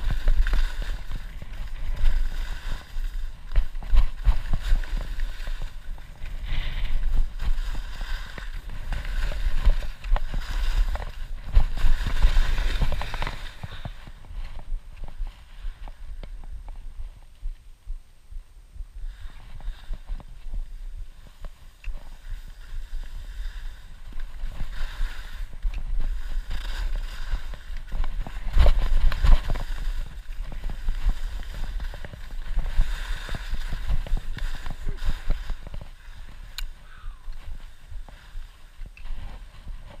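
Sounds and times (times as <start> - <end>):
ski edges scraping snow: 0.0 - 16.8, 19.1 - 40.0.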